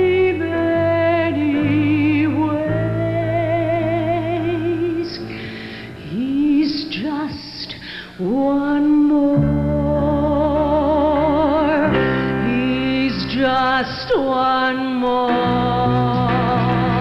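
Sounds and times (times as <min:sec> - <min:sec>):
woman singing operatically: 0:00.0 - 0:17.0.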